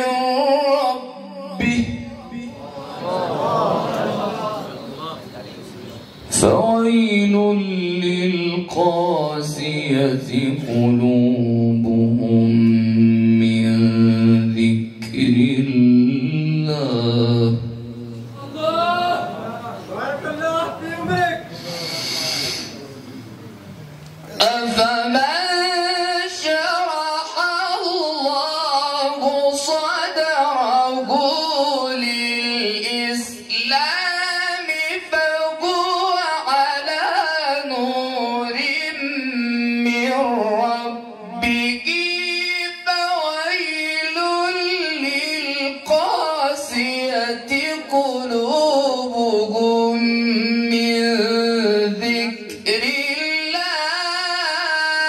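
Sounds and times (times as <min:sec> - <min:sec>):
man reciting in melodic chant: 0:00.0 - 0:23.3, 0:24.2 - 0:55.0.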